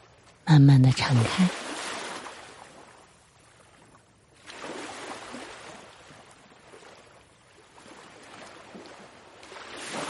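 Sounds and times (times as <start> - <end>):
ocean waves washing: 0.0 - 3.8, 4.4 - 10.0.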